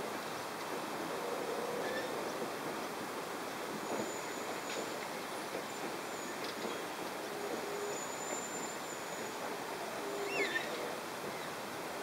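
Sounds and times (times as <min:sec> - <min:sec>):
train wheels rumbling on rail: 0:00.0 - 0:10.2.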